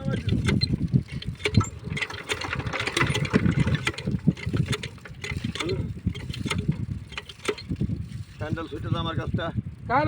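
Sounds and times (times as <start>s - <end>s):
engine knocks: 0.0s - 8.6s.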